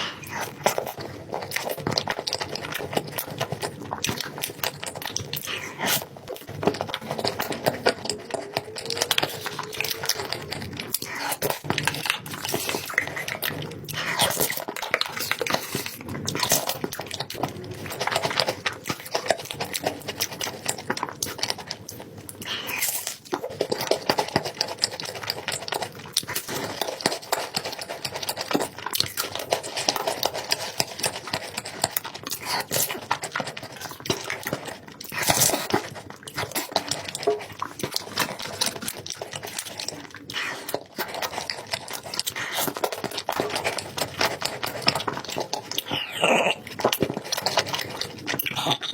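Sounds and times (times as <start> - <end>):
close chewing with smacks: 0.0 - 48.9.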